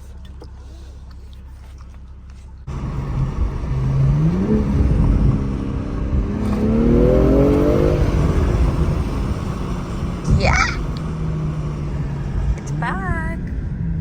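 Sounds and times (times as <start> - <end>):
car engine revving: 2.6 - 14.0.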